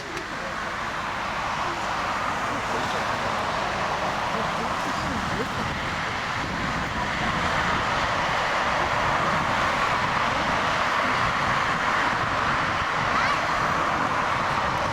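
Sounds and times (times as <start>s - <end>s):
jet engines climbing: 0.0s - 14.9s.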